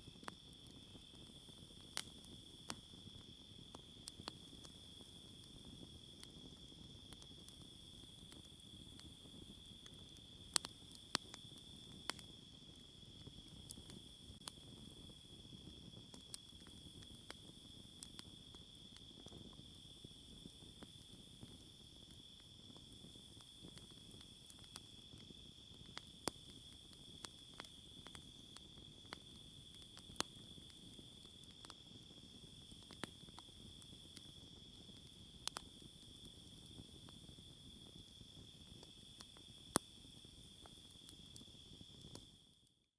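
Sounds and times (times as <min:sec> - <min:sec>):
sharp pops from fire: 0:00.0 - 0:42.3
campfire crackling: 0:00.0 - 0:42.7.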